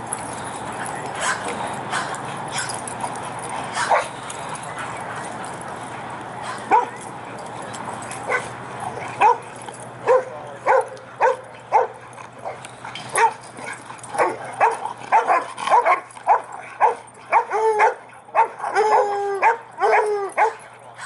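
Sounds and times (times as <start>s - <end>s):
dogs barking in play: 0.2s - 21.0s.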